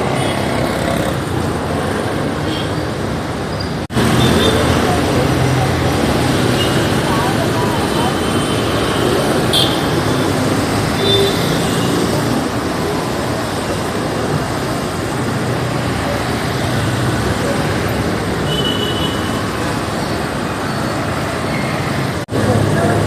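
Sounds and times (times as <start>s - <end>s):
road traffic roar: 0.0s - 23.0s.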